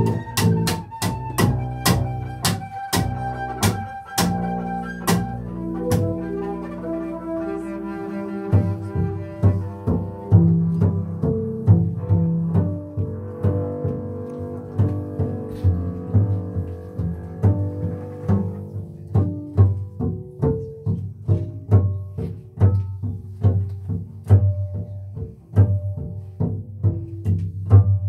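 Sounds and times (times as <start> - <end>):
double basses bowed notes: 0.0 - 26.4
double basses plucked notes: 0.0 - 28.0.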